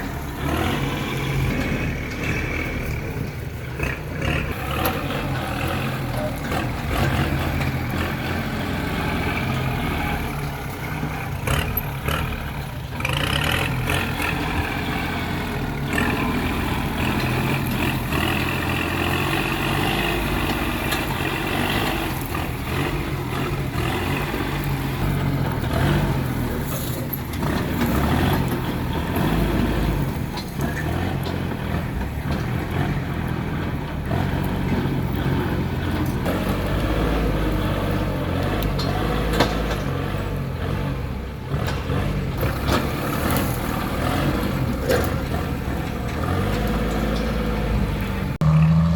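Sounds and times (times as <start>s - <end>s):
diesel machinery running: 0.0s - 48.9s.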